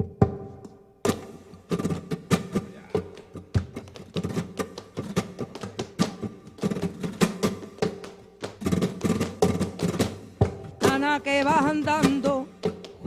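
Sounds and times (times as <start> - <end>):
flamenco music: 0.0 - 13.0.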